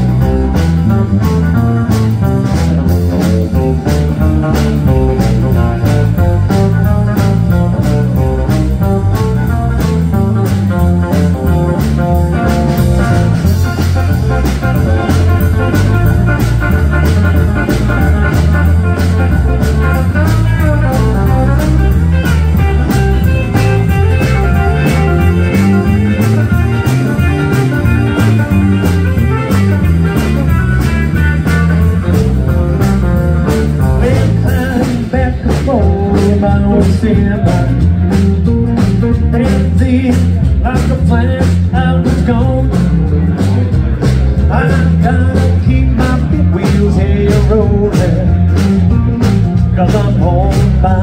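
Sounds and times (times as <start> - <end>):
bass guitar: 0.0 - 51.0
drum kit beat: 0.0 - 51.0
electric guitars: 0.0 - 51.0.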